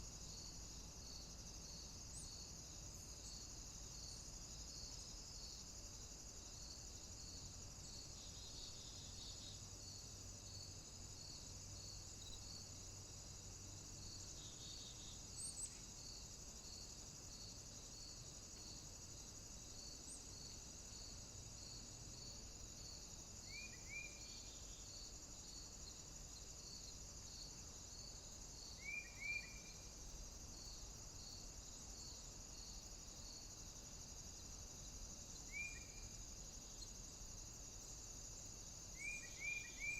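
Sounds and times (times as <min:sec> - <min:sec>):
cricket chirping: 0:00.0 - 0:39.9
insects steady high shrill: 0:00.0 - 0:39.9.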